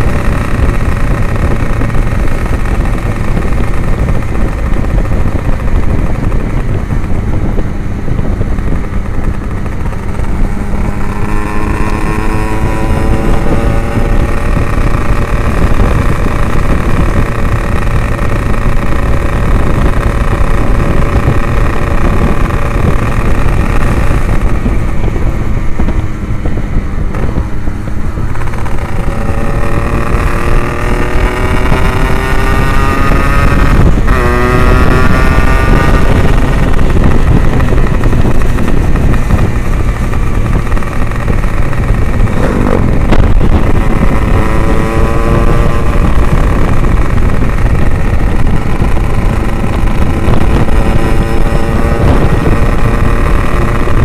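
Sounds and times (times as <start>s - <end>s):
motorcycle engine accelerating: 0.0s - 54.0s
wind on microphone: 0.0s - 54.0s.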